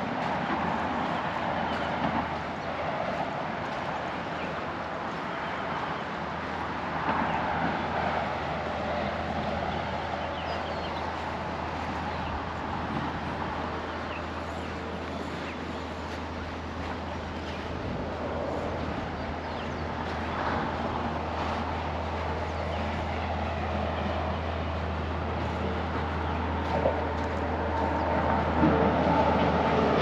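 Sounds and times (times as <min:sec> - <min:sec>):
highway traffic noise: 0:00.0 - 0:30.0.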